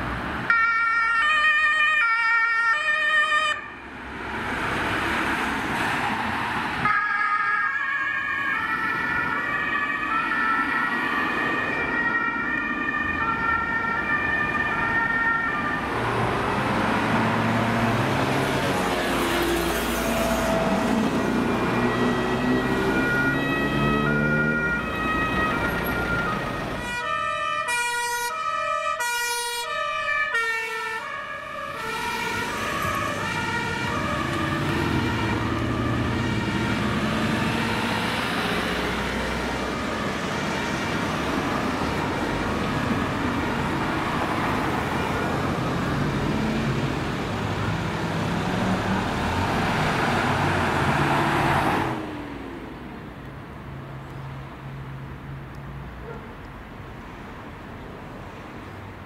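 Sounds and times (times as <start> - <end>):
car engines in traffic: 0.0 - 59.0
two-tone emergency sirens: 0.5 - 3.8, 6.7 - 52.3.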